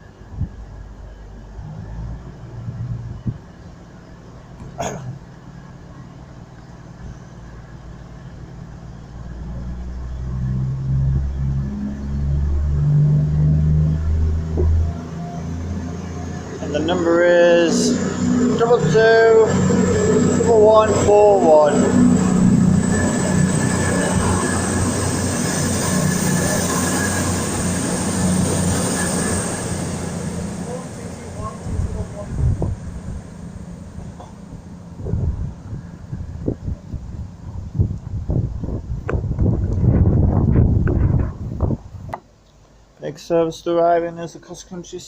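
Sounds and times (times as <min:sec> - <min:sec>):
thin high whine: 0:00.0 - 0:37.6
train diesel engines powering up: 0:00.0 - 0:38.9.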